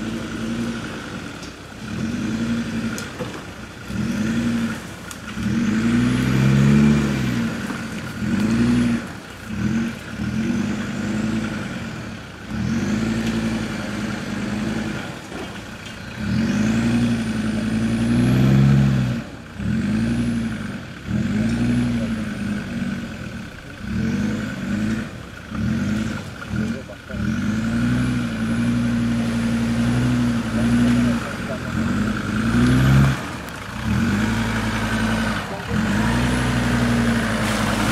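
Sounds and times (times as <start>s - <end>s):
diesel engine revving: 0.0s - 37.9s.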